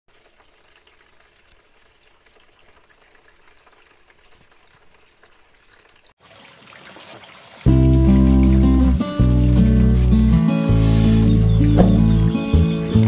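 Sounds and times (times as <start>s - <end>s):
water trickling and splashing: 0.1s - 13.0s.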